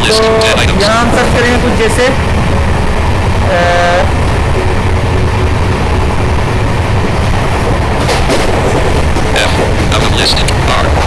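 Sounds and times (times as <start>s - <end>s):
moving vehicle rumble and hiss: 0.0s - 11.0s.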